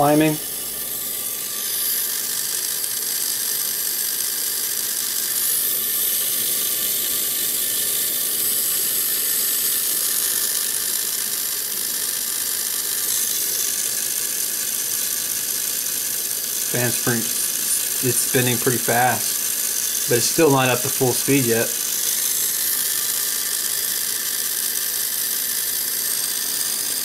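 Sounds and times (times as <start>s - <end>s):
small cooling fan whirring: 0.0s - 27.0s
torch flame hissing: 0.0s - 27.0s.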